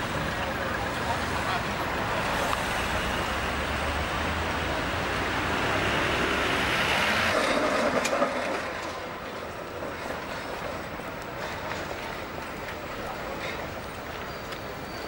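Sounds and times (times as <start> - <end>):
traffic rumble with tyre noise: 0.0 - 15.0
trams rolling on track: 0.0 - 15.0.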